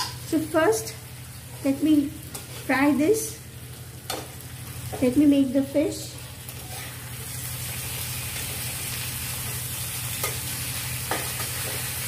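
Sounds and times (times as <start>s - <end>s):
fish sizzling in oil: 0.1s - 12.0s.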